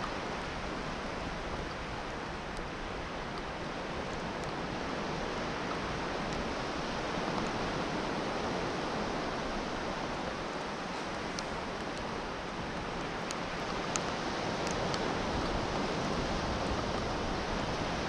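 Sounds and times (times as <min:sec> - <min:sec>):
sea surf breaking: 0:00.0 - 0:18.0.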